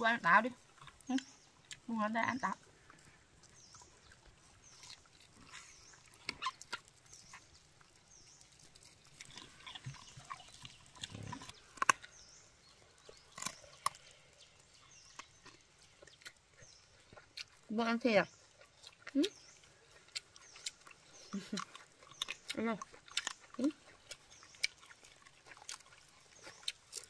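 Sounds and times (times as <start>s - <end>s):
crispy chicken being chewed: 0.3s - 27.0s.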